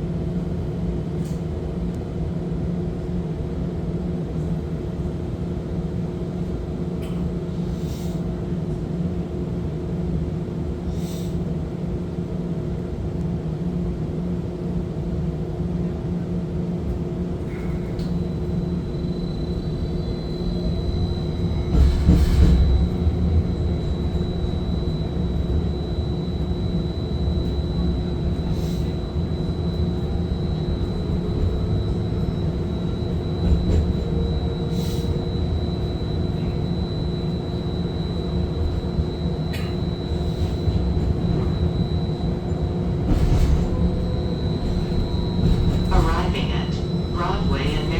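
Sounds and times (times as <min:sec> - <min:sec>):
streetcar hum and rumble: 0:00.0 - 0:47.9.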